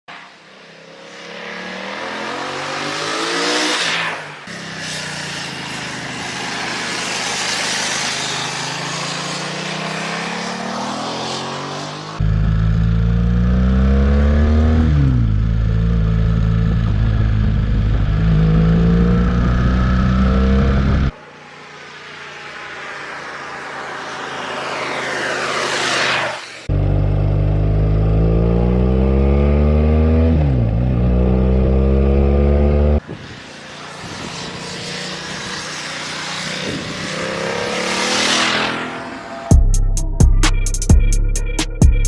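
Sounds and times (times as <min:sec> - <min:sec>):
wind and road noise: 0:00.1 - 0:39.6
motorcycle engine accelerating: 0:00.5 - 0:42.0.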